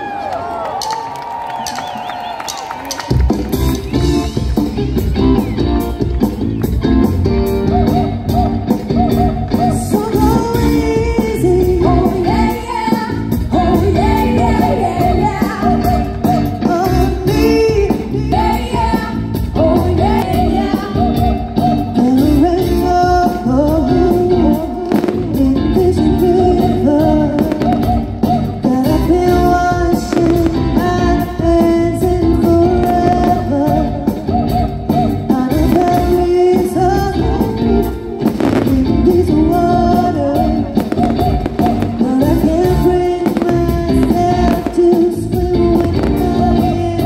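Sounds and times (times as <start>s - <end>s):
rock-pop song with singer and guitar: 3.3s - 47.0s.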